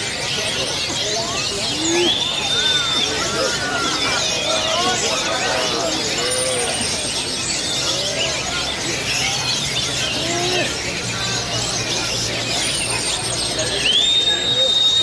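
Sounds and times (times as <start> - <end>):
birds singing: 0.0 - 15.0
murmur of voices: 0.0 - 15.0.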